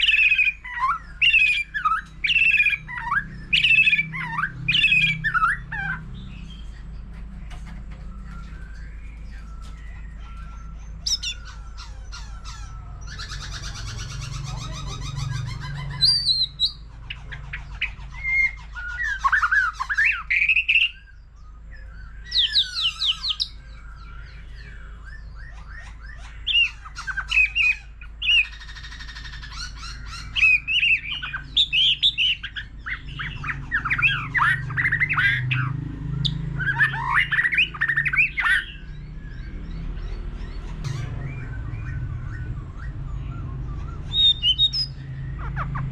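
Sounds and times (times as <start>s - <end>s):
bird singing whistles and trills: 0.0s - 45.9s.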